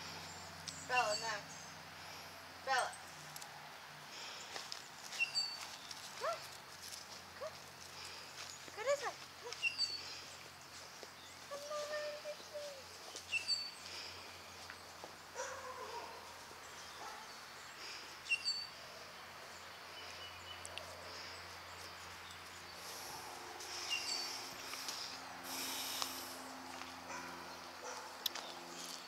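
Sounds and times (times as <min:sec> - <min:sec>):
birds chirping: 0:00.0 - 0:03.5, 0:04.1 - 0:06.6, 0:07.4 - 0:29.0
outdoor ambience: 0:00.0 - 0:29.0.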